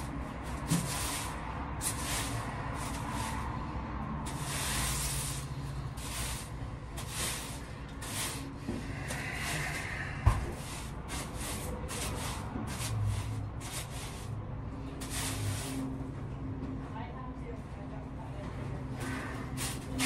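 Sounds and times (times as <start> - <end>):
broom sweeping a floor: 0.0 - 16.0, 19.0 - 20.0.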